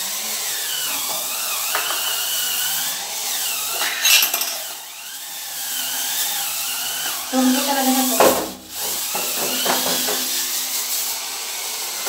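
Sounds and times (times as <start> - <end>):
brush scrubbing floor: 0.0 - 12.0
electric spin scrubber motor whine: 0.0 - 12.0.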